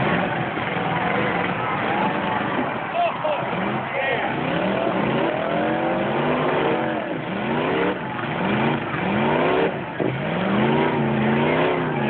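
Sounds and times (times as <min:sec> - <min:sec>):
truck engines revving hard: 0:00.0 - 0:12.0.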